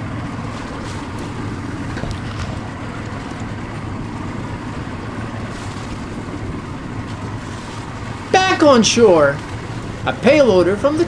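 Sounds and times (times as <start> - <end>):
distant outboard motors droning: 0.0 - 11.0.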